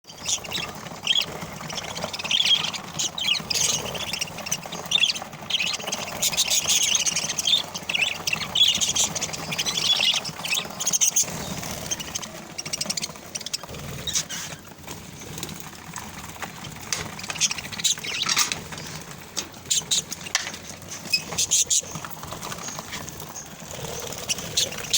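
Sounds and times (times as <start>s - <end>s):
parrots calling: 0.1s - 24.9s.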